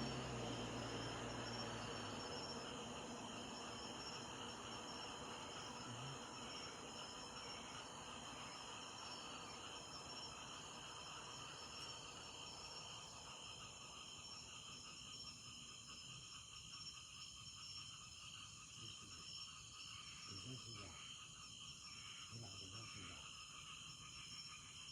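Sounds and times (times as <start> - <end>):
crickets chirring: 0.0 - 24.9.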